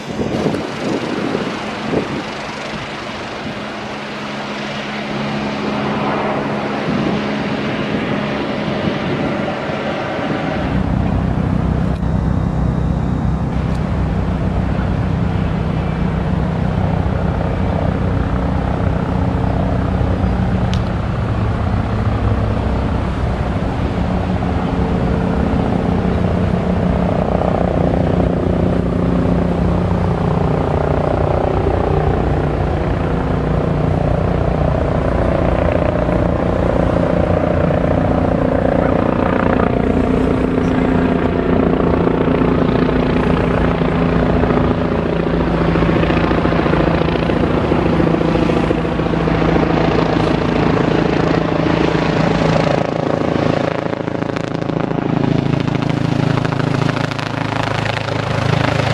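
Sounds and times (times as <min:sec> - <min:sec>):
helicopter engines and rotor: 0:00.0 - 0:58.9.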